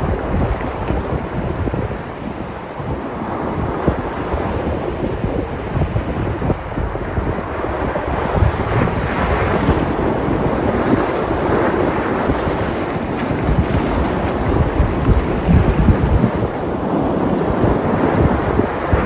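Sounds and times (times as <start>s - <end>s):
waves breaking: 0.0s - 19.0s
wind buffeting microphone: 0.0s - 19.0s.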